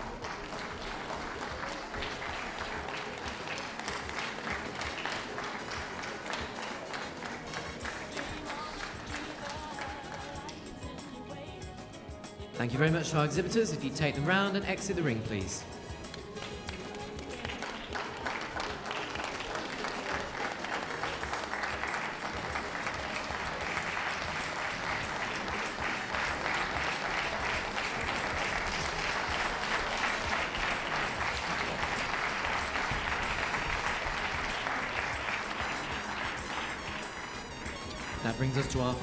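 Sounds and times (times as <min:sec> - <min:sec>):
audience applauding: 0:00.0 - 0:10.6, 0:12.6 - 0:39.0.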